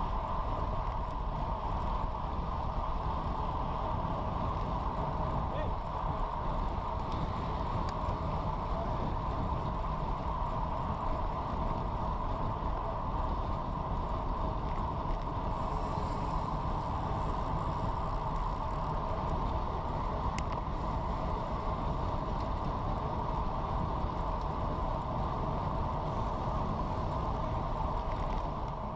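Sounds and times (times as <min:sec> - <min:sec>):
road tyre noise: 0:00.0 - 0:28.9
wind rushing over microphone: 0:00.0 - 0:28.9.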